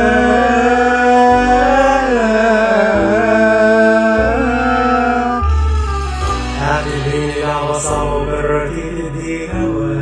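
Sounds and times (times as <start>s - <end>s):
pop song with ornamented melody: 0.0s - 10.0s.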